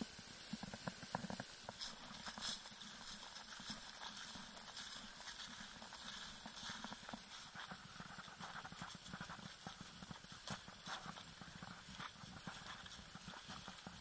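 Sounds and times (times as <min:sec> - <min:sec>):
footsteps on grass and leaves: 0:00.5 - 0:14.0.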